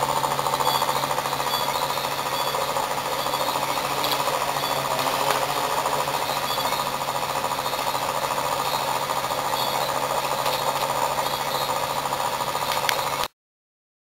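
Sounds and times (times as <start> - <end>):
low hum: 0.0 - 13.3
motor buzzing rattle: 0.0 - 13.3.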